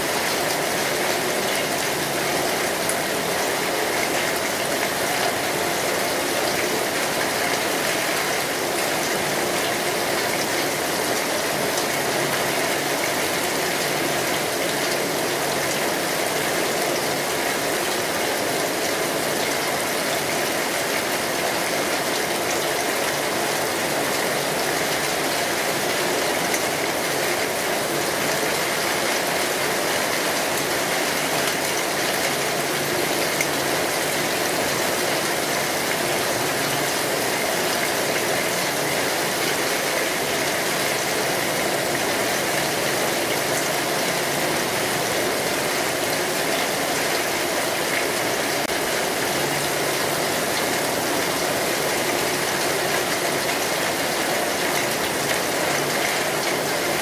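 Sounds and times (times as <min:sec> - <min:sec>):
rain falling on street: 0:00.0 - 0:57.0.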